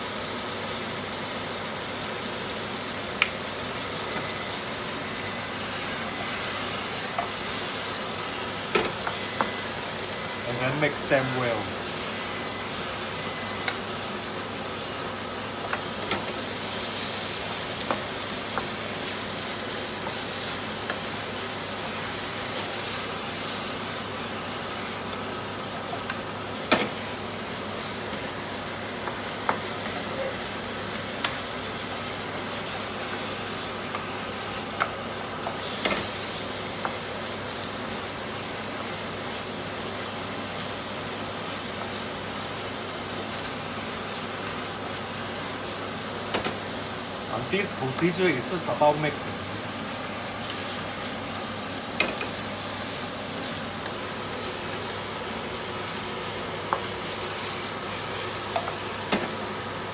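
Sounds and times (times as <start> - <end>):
chicken sizzling in frying pan: 0.0 - 59.9.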